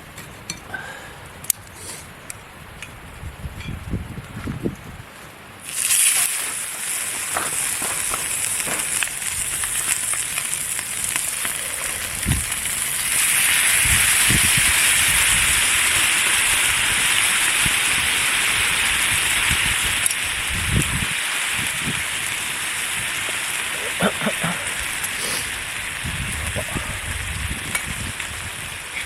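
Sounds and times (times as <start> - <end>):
food sizzling in a pan: 5.6 - 28.9.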